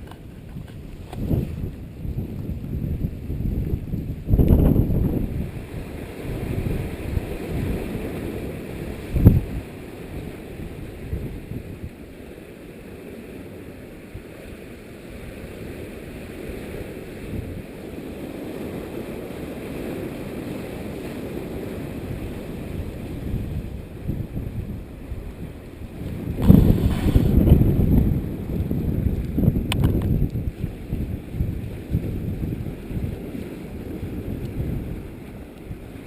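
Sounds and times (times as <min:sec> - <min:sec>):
wind buffeting microphone: 0:00.0 - 0:12.0, 0:15.2 - 0:36.0.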